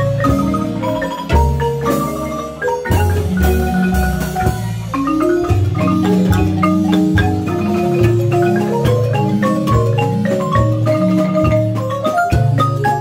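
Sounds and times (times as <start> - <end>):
marimba played with mallets: 0.0 - 13.0.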